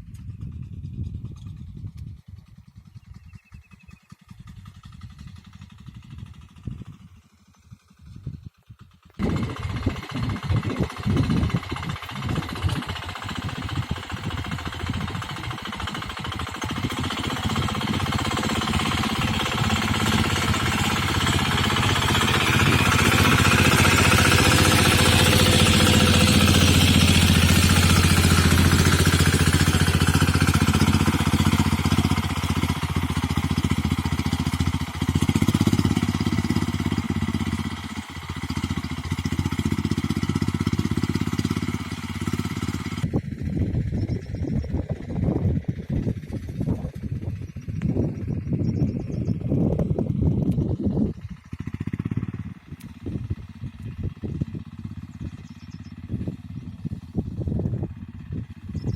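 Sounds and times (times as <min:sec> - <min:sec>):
small tractor engine running: 0:00.0 - 0:58.9.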